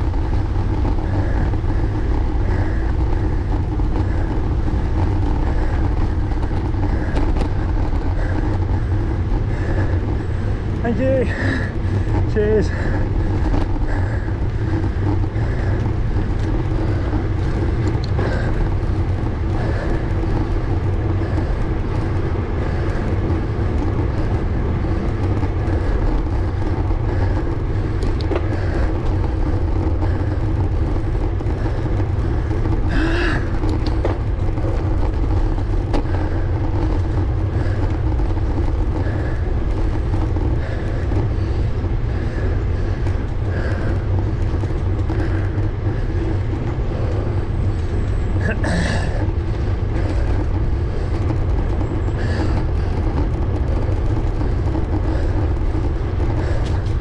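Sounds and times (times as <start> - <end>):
bicycle road noise: 0.0 - 57.0
wind noise: 0.0 - 57.0.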